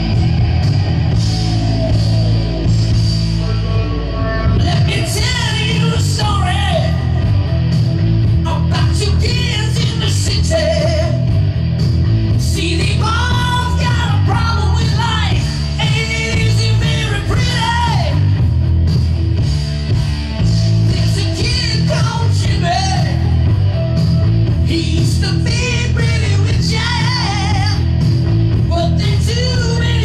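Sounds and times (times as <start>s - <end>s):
man singing rock song: 0.0s - 18.8s, 20.4s - 30.0s
rock backing track with heavy bass: 0.0s - 30.0s.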